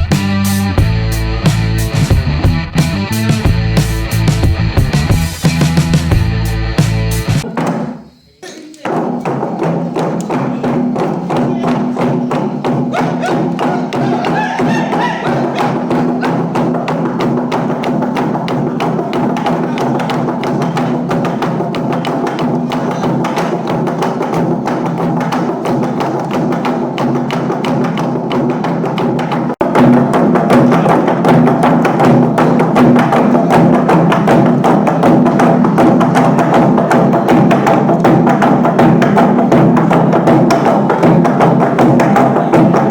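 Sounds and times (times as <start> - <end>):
log drum hollow wooden strikes: 7.4 - 42.9.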